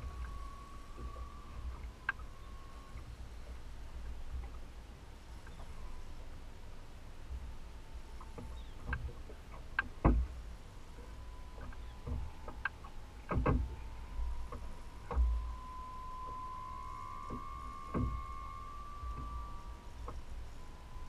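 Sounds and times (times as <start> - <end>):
knocks and clicks on a boat: 0.0 - 4.7, 5.4 - 6.4, 8.1 - 15.6, 17.1 - 21.0
faint steady whine: 0.0 - 21.0.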